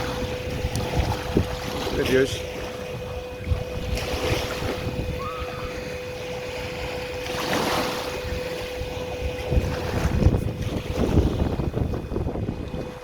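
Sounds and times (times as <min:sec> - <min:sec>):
camera gimbal motors humming: 0:00.0 - 0:13.0
wind buffeting microphone: 0:00.0 - 0:13.0.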